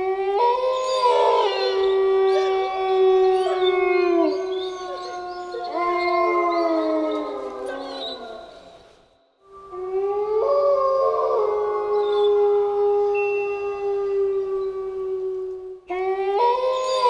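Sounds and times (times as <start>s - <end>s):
wolves howling in chorus: 0.0s - 17.0s.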